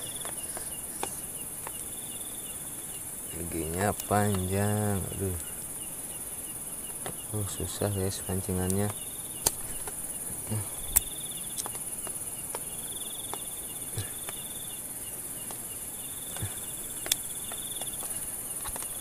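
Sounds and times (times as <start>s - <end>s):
cricket trilling in pulses: 0.0s - 19.0s
insect chorus shrilling: 0.0s - 19.0s.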